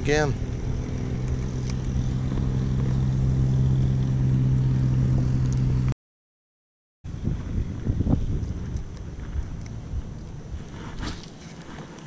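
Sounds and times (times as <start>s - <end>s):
engine hum: 0.0s - 6.0s, 7.1s - 12.0s.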